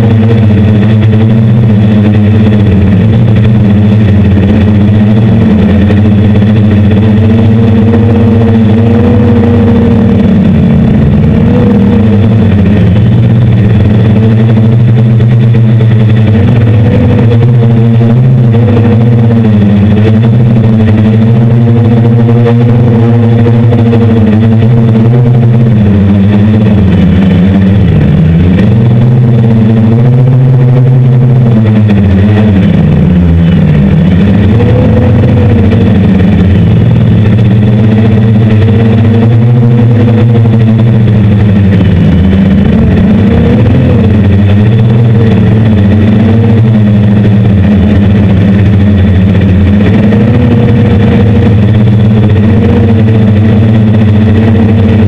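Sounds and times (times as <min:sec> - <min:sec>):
drone motors droning: 0:00.0 - 0:55.0.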